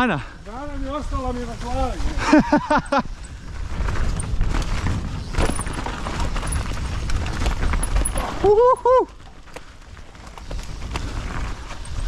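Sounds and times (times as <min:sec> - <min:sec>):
bike tyres rumbling on dirt: 0:00.0 - 0:12.0
bike rattling clicks and knocks: 0:01.6 - 0:12.0.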